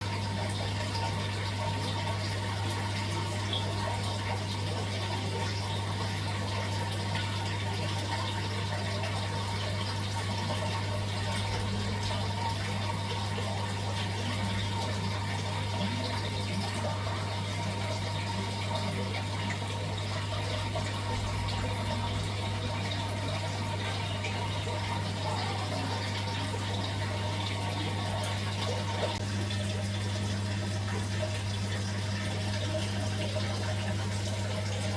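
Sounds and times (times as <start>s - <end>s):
aquarium pump humming: 0.0s - 34.9s
water bubbling and trickling: 0.0s - 34.9s.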